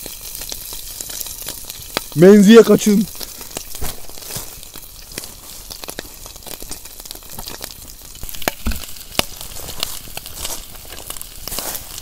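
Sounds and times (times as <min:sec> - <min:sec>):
octopus sizzling in hot oil: 0:00.0 - 0:12.0
oil popping and crackling: 0:00.0 - 0:12.0.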